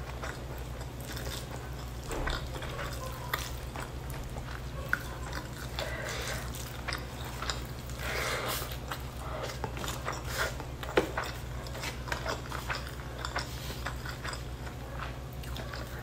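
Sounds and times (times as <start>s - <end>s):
close chewing: 0.0s - 16.0s
steady low hum: 0.0s - 16.0s.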